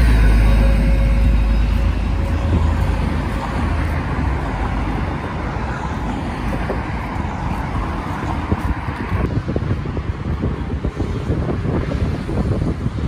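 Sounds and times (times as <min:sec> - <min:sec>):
road noise hum: 0:00.0 - 0:13.0
vehicle engine rumble: 0:00.0 - 0:13.0.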